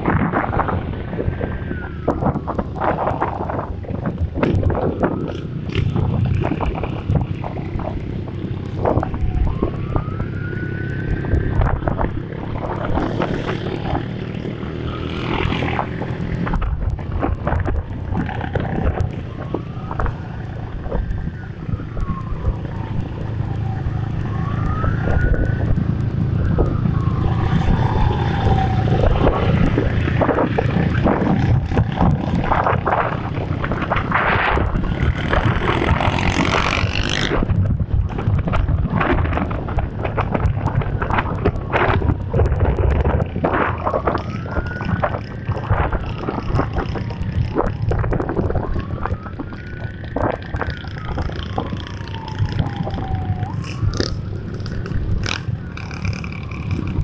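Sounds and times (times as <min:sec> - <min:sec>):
motorcycle engines droning: 0:00.0 - 0:57.0
siren wailing: 0:00.0 - 0:57.0
wind buffeting microphone: 0:00.0 - 0:57.0.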